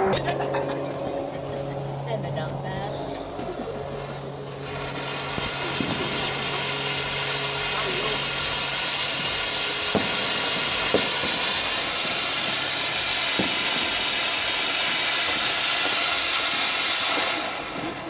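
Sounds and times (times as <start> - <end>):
firework fountain hissing: 0.0 - 18.0.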